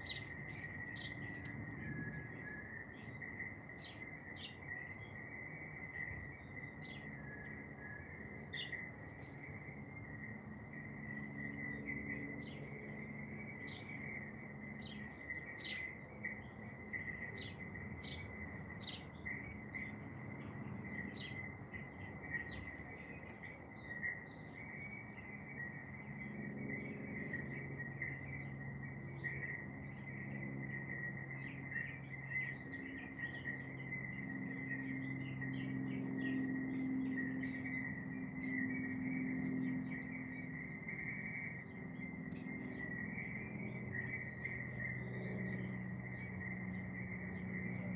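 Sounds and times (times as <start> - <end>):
birds chirping and singing: 0.0 - 47.9
low sustained hum: 0.0 - 47.9.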